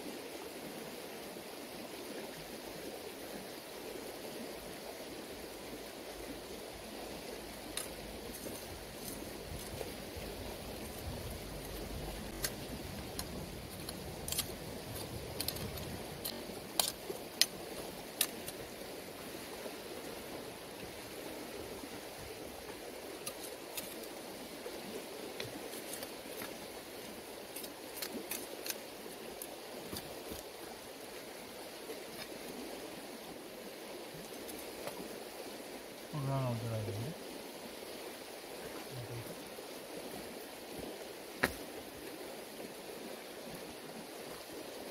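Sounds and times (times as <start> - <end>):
steady background hiss: 0.0 - 44.9.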